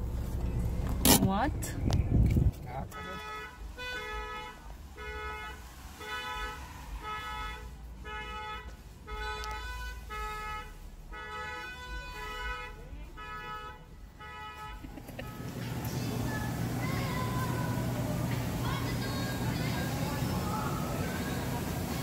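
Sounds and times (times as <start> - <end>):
car horn honking: 2.8 - 21.8.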